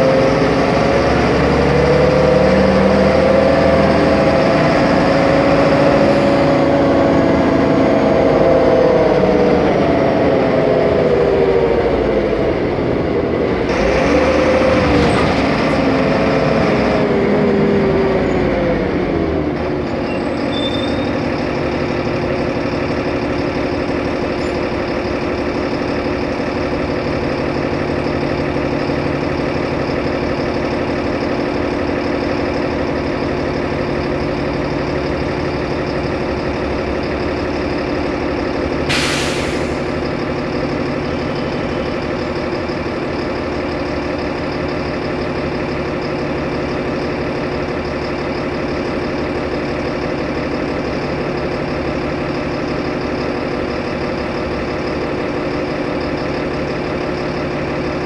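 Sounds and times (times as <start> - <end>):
bus engine slowing and idling: 0.0 - 58.0.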